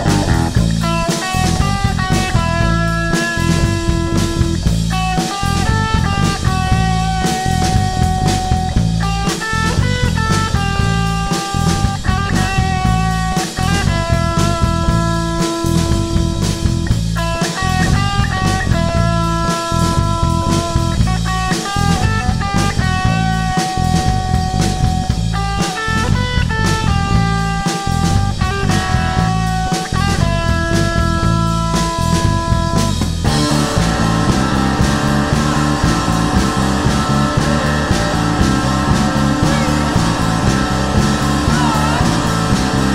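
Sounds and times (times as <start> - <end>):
drum kit beat: 0.0 - 42.9
rock guitar sustained notes: 0.0 - 42.9.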